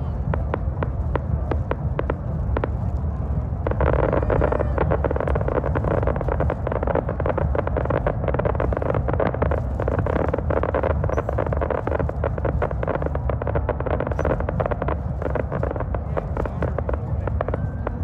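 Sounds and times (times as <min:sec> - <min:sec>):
fireworks bursting and crackling: 0:00.0 - 0:18.0
low rumble: 0:00.0 - 0:18.0.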